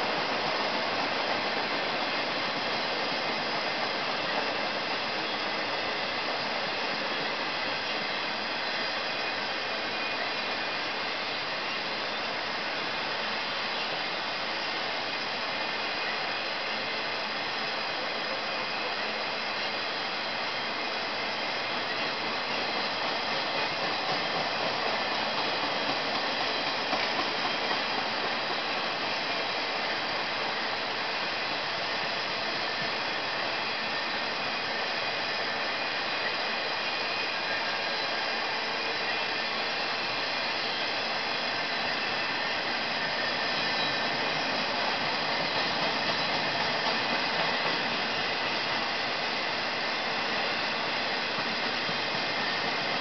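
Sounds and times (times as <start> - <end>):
freight train wheels rushing: 0.0 - 53.0.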